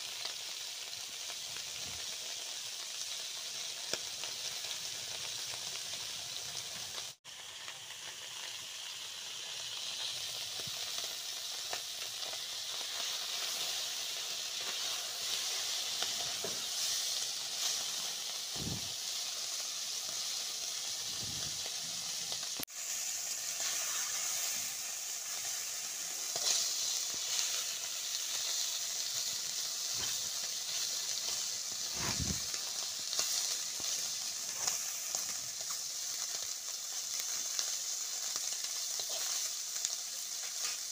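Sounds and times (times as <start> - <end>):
fish sizzling in hot oil: 0.0 - 40.9.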